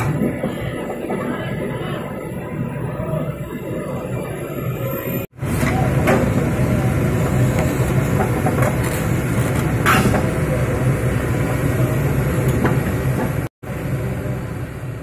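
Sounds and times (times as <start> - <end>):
excavator diesel engine droning: 0.0 - 15.0.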